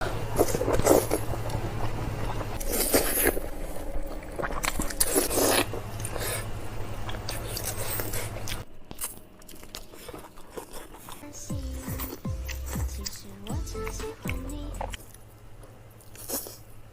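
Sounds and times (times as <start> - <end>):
crunchy chewing of food: 0.0 - 16.9
steady low hum: 0.0 - 16.9.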